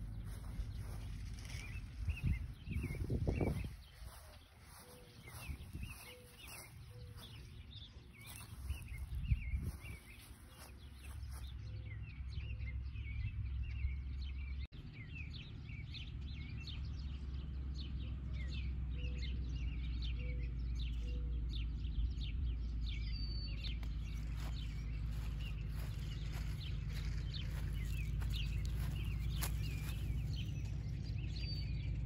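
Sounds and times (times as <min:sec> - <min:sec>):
steady low rumble: 0:00.0 - 0:17.2, 0:20.7 - 0:32.0
small birds chirping: 0:00.0 - 0:32.0.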